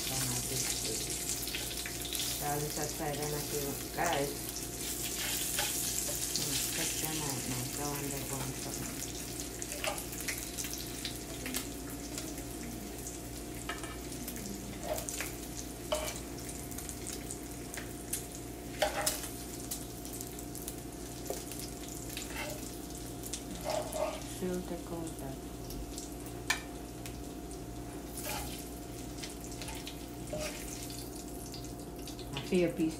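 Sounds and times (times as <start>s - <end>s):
bacon sizzling in a frying pan: 0.0s - 32.9s.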